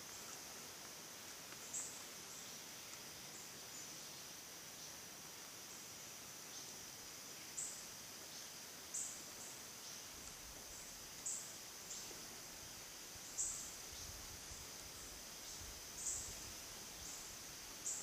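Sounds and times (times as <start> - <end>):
high insect chirps: 0.0 - 18.0
insect drone: 0.0 - 18.0.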